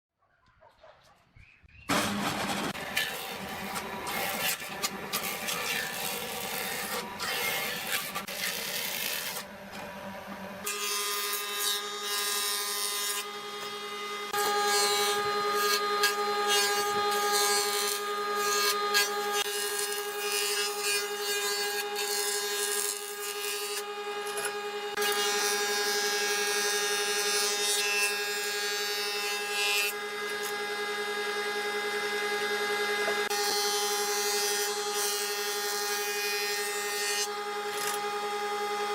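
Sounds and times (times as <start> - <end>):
power tool running on wood: 1.9 - 38.9.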